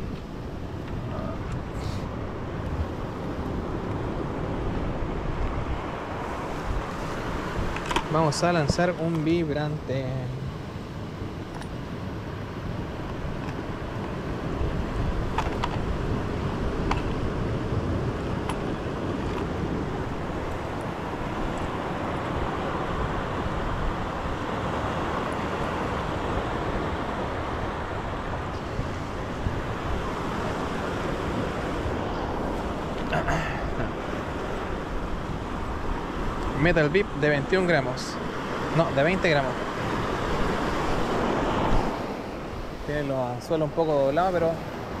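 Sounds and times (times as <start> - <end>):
ocean surf washing: 0.0 - 45.0
wind buffeting microphone: 0.0 - 45.0.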